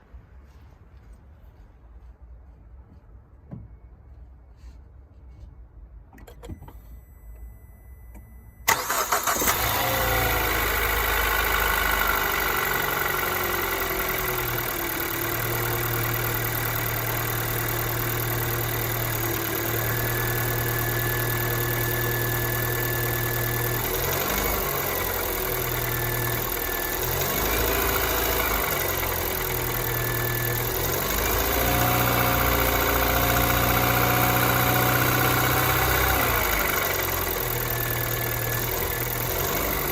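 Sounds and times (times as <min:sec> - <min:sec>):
car engine starting and idling: 0:06.0 - 0:39.9.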